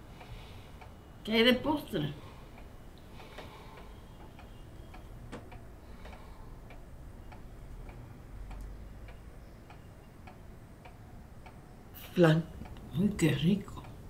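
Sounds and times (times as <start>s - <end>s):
low room hum: 0.0s - 14.0s
clock ticking: 0.1s - 14.0s.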